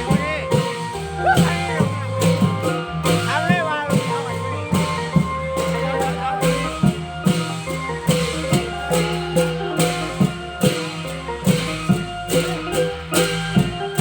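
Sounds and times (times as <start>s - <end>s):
drum strikes: 0.0s - 14.0s
melody with sliding notes: 0.0s - 14.0s.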